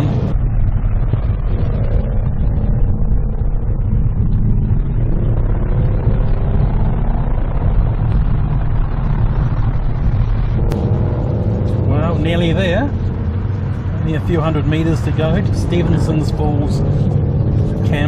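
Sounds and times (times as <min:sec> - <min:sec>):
car engine running: 0:00.0 - 0:18.0
road noise: 0:00.0 - 0:18.0.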